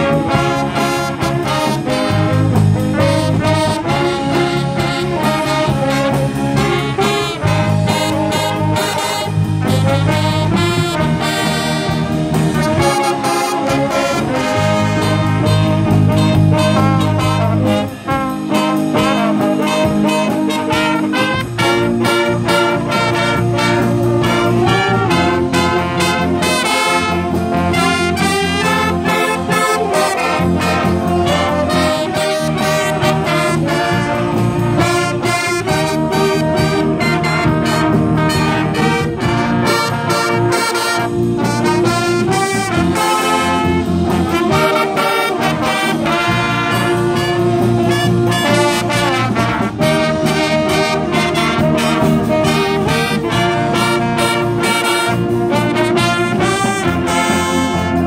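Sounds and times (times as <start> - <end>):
brass swing jazz band: 0.0 - 58.0.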